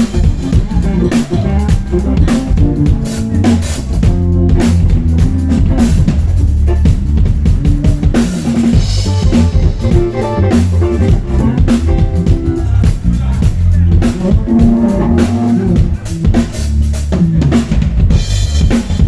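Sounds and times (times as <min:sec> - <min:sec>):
kick drum and rimshots: 0:00.0 - 0:19.0
live band playing: 0:00.0 - 0:19.0.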